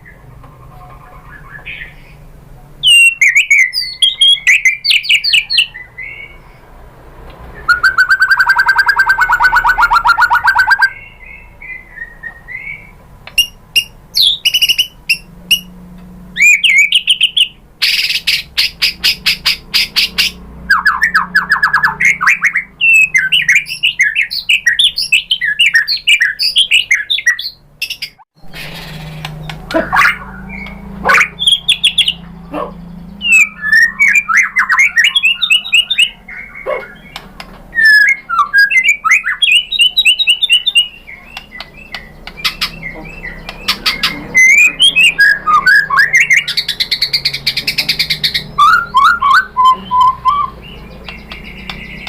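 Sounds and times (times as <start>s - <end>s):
bird singing whistled phrases: 2.8s - 6.5s, 7.6s - 15.7s, 16.4s - 28.2s, 29.8s - 52.0s.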